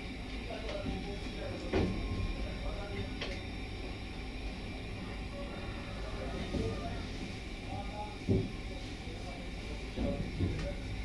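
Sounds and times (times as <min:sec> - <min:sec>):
faint high whine: 0:00.0 - 0:11.0
train carriage rumbling on track: 0:00.0 - 0:11.0.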